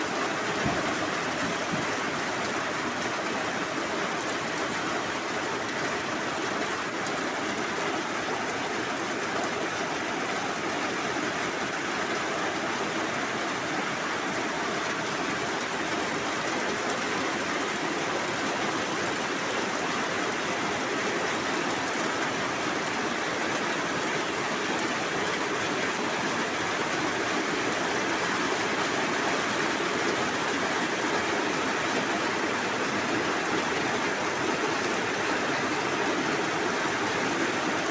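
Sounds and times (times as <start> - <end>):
heavy rain on metal roof: 0.0 - 37.9.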